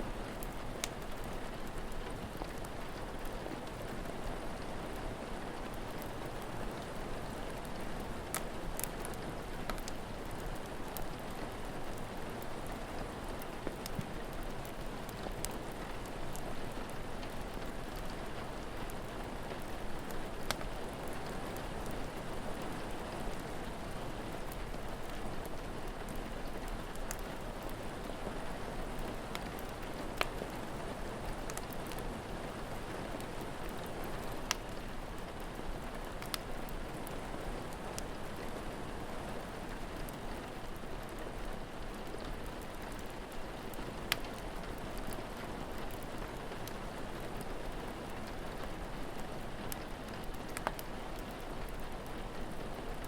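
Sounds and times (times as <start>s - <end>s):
steady rain falling: 0.0s - 53.0s
wood fire crackling: 0.1s - 53.0s.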